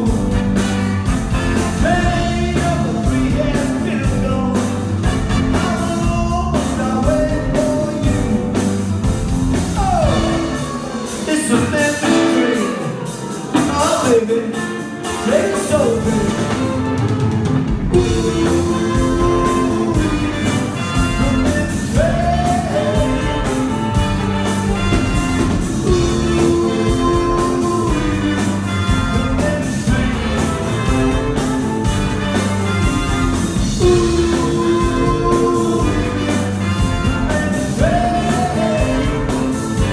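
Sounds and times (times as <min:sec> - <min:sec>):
man singing: 0:00.0 - 0:16.8, 0:17.9 - 0:39.9
live rock band playing: 0:00.0 - 0:39.9.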